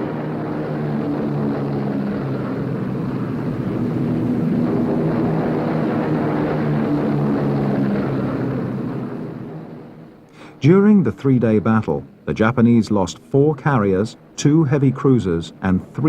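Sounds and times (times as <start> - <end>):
propeller aircraft droning: 0.0 - 16.0.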